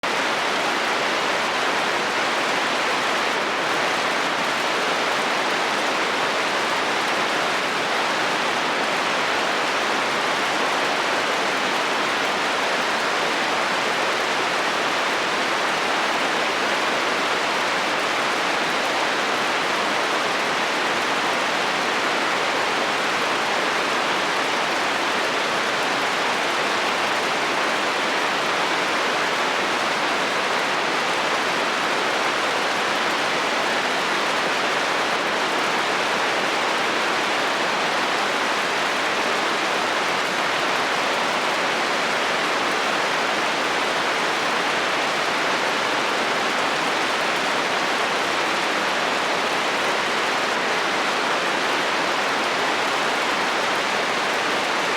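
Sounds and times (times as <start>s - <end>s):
heavy rain on a metal roof: 0.0s - 54.9s.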